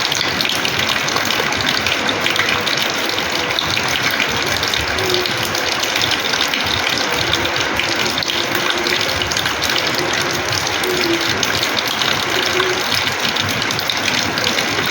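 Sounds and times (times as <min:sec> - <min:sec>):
rainwater splashing on floor: 0:00.0 - 0:14.9.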